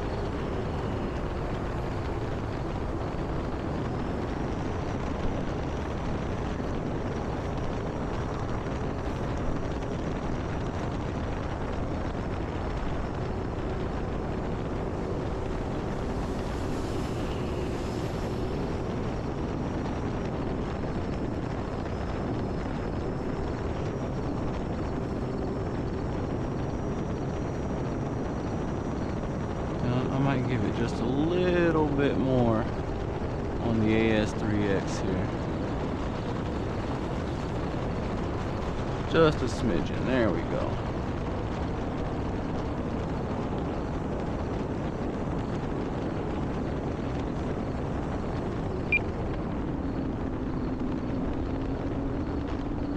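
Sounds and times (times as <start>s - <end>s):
wind on microphone: 0.0s - 52.9s.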